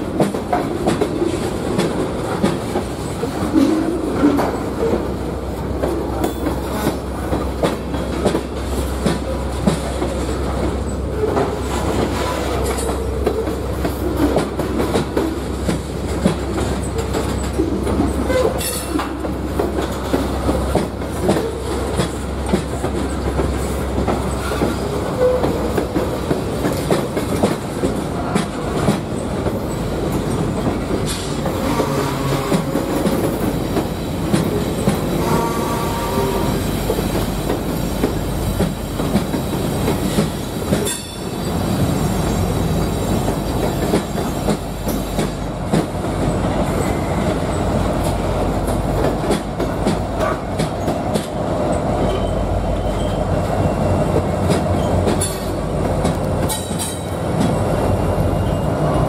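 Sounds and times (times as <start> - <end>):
freight train wheels clattering: 0.0 - 59.0.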